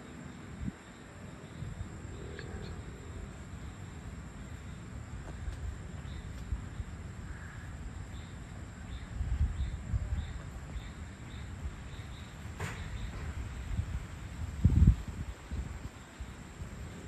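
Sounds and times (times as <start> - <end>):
insect chorus buzzing and chirping: 0.0 - 17.0
low wind rumble on microphone: 0.0 - 17.0.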